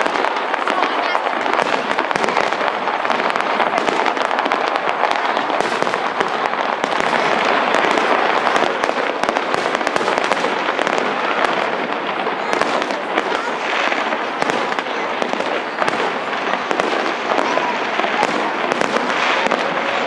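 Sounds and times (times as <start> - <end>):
fireworks crackling: 0.0 - 20.0.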